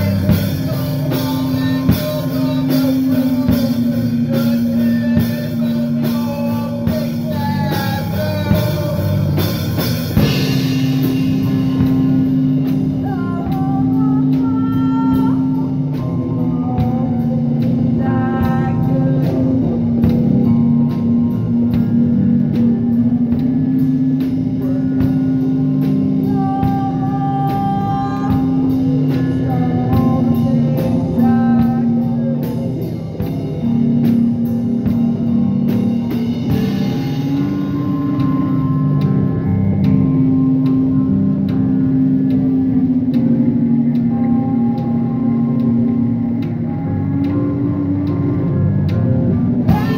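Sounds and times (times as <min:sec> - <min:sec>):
drum kit: 0:00.0 - 0:49.9
electric guitar: 0:00.0 - 0:49.9
person singing: 0:00.0 - 0:49.9.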